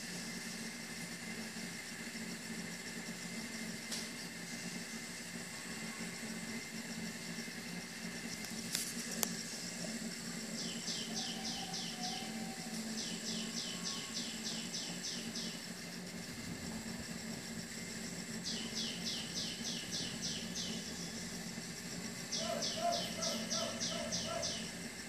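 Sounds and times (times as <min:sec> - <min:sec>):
high whine: 0:00.0 - 0:25.0.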